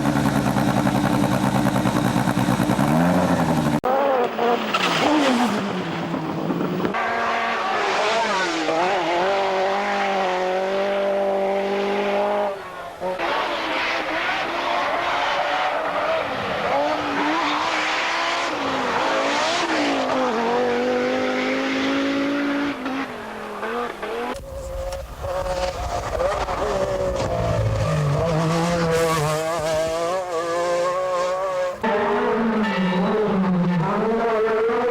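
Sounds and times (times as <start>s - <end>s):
rally car engines at full throttle: 0.0s - 34.9s.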